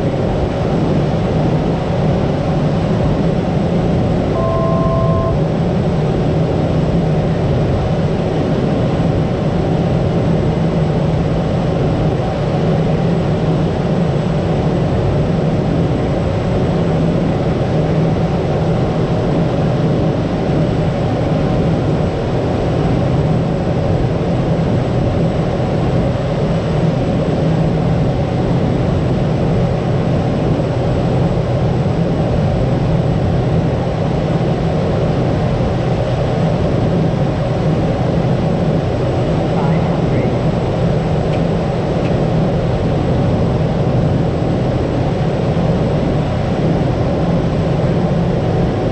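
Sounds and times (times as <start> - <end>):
turboprop engine drone: 0.0 - 48.9.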